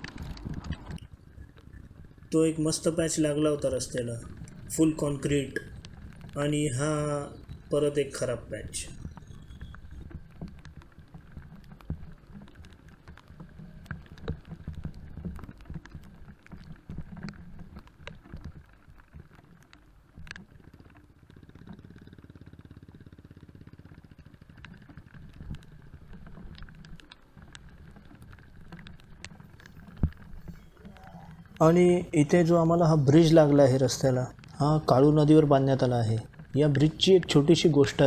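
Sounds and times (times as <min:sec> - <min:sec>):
muffled motorcycle engine: 0:00.0 - 0:38.0.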